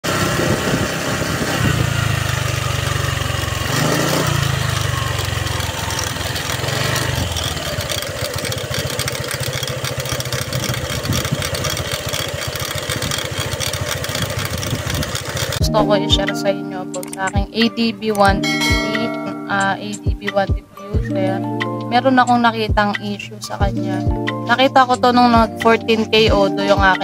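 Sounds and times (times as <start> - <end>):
scooter engine running: 0.0 - 27.0.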